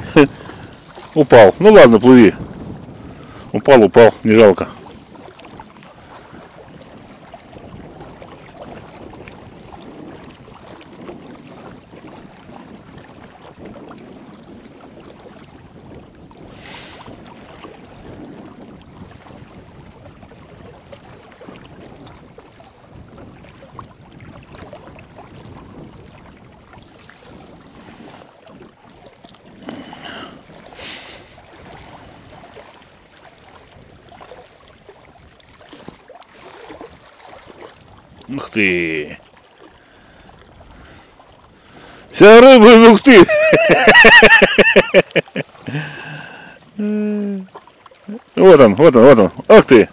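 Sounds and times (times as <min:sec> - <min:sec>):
small waves lapping on rocks: 0:00.0 - 0:49.9.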